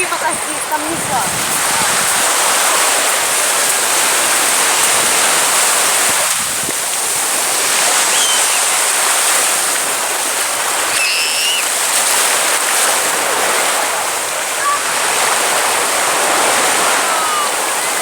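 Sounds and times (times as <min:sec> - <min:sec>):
sea waves and surf rushing: 0:00.0 - 0:18.0.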